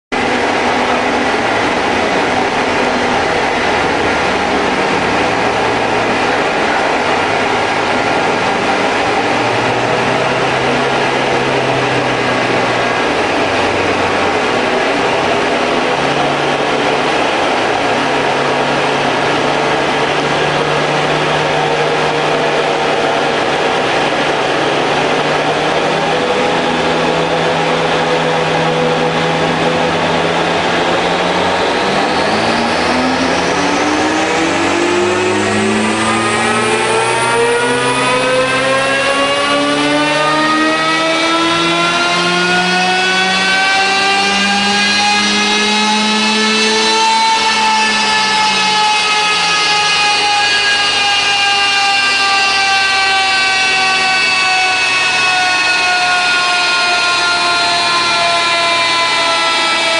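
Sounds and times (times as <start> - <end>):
car engine under load: 0.1 - 59.9
tyres driving dyno rollers: 0.1 - 59.9.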